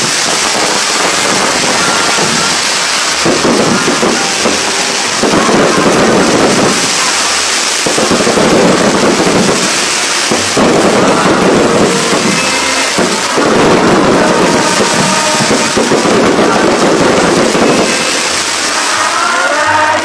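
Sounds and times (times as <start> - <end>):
fireworks crackling: 0.0 - 20.0
heavier firework bursts: 0.0 - 20.0.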